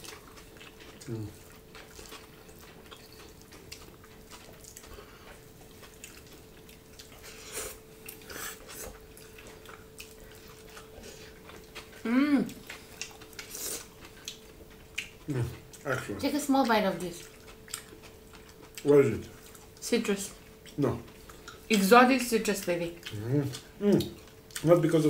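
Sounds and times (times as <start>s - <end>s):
chewing and lip smacks: 0.0s - 21.9s, 22.9s - 25.0s
faint steady hum: 0.0s - 25.0s.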